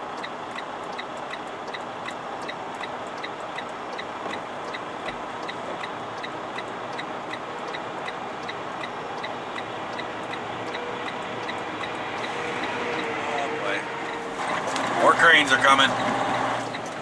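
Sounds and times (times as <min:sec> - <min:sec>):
light even ticking: 0:00.0 - 0:14.3, 0:15.2 - 0:17.0
truck cab hum: 0:00.0 - 0:17.0.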